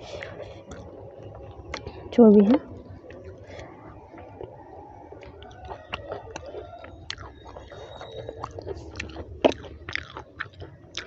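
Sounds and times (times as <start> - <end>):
person chewing with wet smacking: 0.0 - 11.0.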